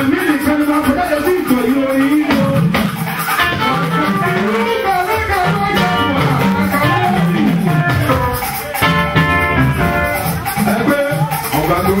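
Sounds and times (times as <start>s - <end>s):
live gospel band music: 0.0s - 12.0s
person singing: 0.0s - 12.0s.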